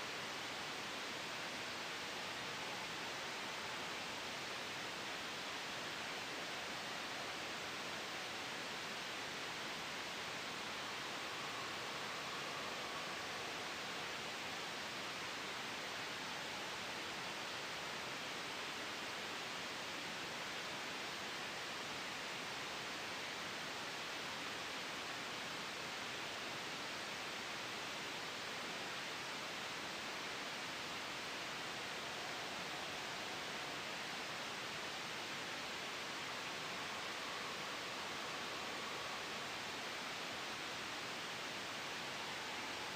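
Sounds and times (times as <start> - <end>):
gentle wind: 0.0 - 42.9
white noise hiss: 0.0 - 42.9.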